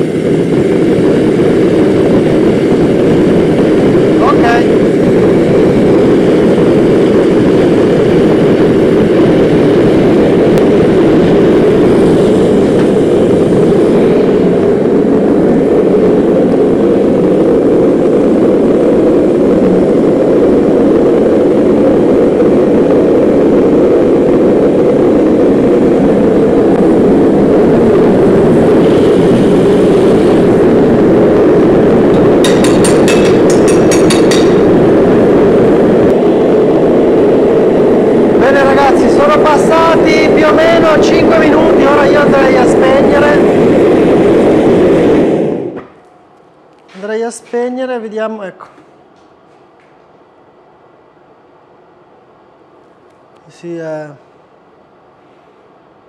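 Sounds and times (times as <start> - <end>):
gas forge burner roaring: 0.0 - 56.0.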